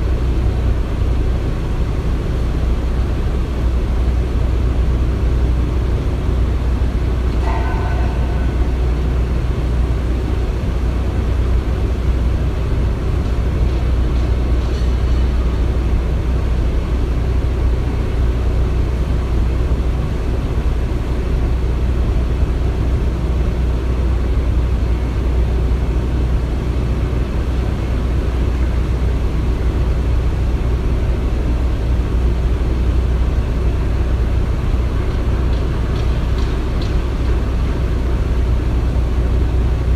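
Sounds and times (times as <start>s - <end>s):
heavy machinery rumble: 0.0s - 39.9s.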